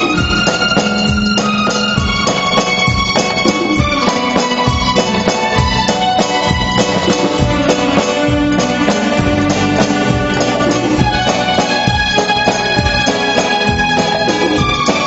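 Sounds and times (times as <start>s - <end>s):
conga drums struck by hand: 0.0s - 15.0s
live band playing: 0.0s - 15.0s.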